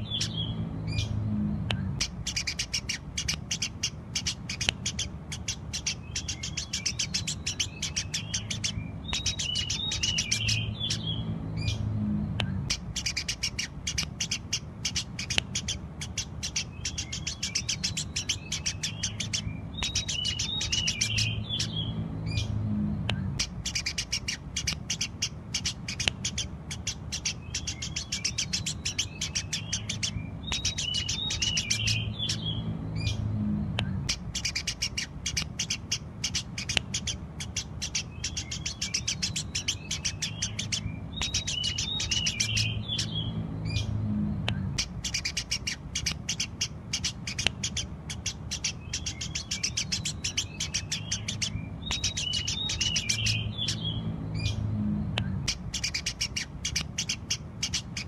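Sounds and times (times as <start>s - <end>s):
low steady hum: 0.0s - 58.0s
sparrows chirping: 0.0s - 58.0s.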